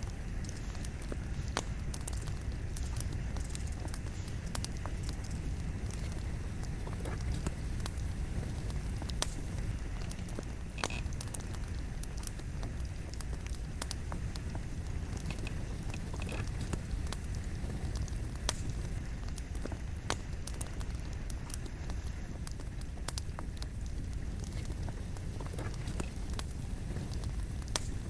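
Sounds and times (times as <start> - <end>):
fire rumbling: 0.0 - 28.0
logs crackling and popping: 0.0 - 28.0.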